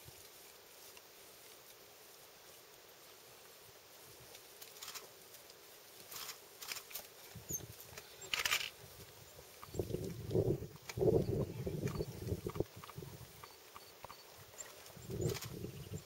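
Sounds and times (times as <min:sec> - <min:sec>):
rustling in dry grass: 0:00.0 - 0:16.0.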